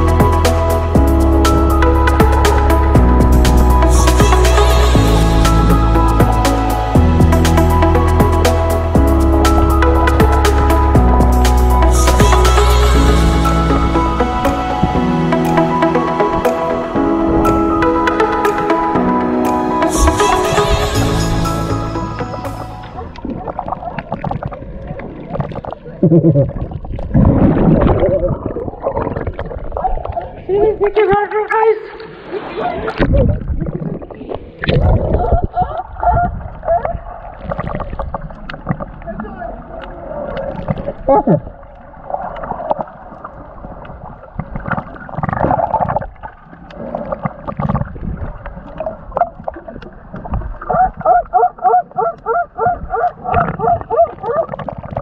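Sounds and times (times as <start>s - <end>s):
water gurgling and sloshing: 0.0s - 55.0s.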